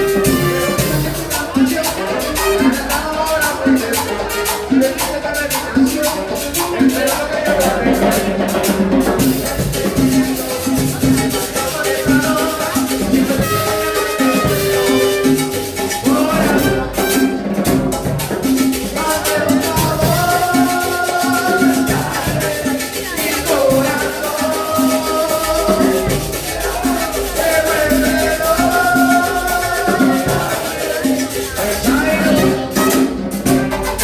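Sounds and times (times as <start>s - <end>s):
band playing cumbia music: 0.0s - 34.0s.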